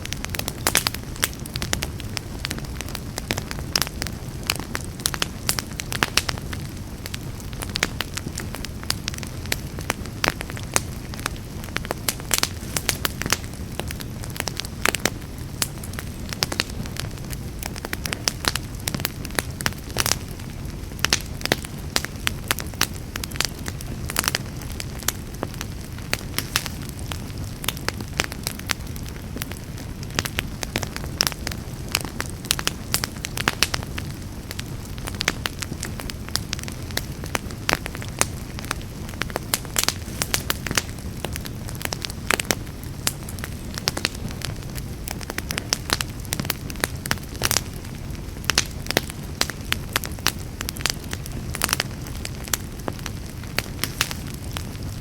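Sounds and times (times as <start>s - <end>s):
fire crackling and popping: 0.0s - 55.0s
fire low rumble: 0.0s - 55.0s.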